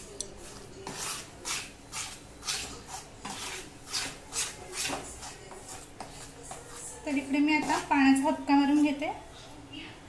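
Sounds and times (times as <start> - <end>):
steel spoon scraping a pan: 0.0 - 9.5.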